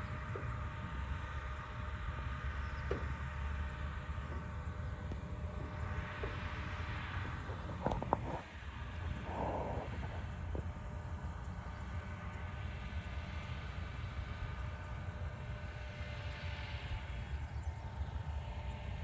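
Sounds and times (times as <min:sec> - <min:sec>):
engine droning: 0:00.0 - 0:19.0
faint steady tones: 0:00.0 - 0:19.0.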